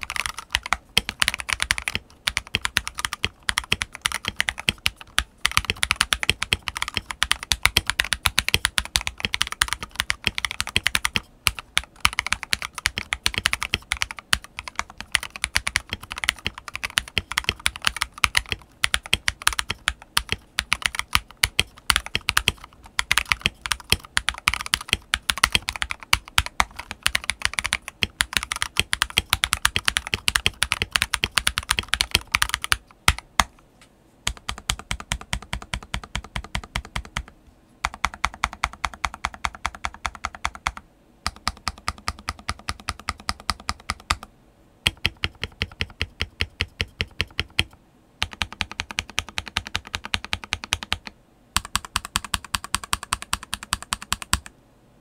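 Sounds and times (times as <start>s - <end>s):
mechanical keyboard typing: 0.0s - 33.6s, 34.3s - 54.5s.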